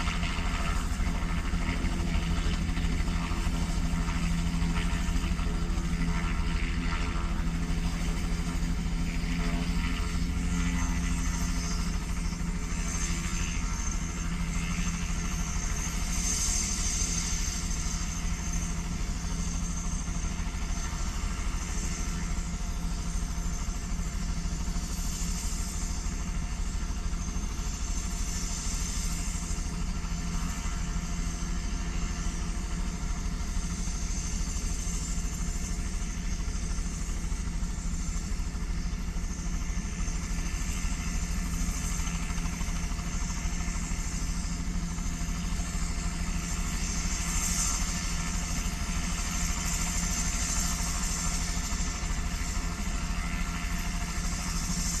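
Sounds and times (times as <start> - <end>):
helicopter engine and rotor running: 0.0 - 55.0.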